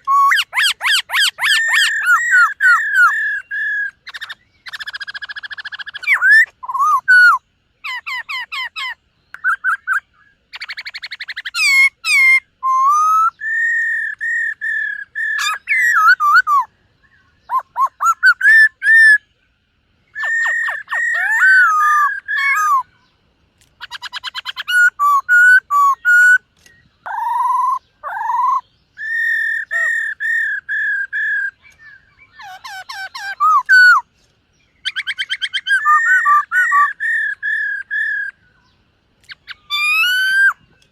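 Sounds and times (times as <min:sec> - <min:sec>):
bird singing whistled phrases: 0:00.0 - 0:19.3, 0:20.1 - 0:23.0, 0:23.8 - 0:34.0, 0:34.8 - 0:38.7, 0:39.3 - 0:40.9.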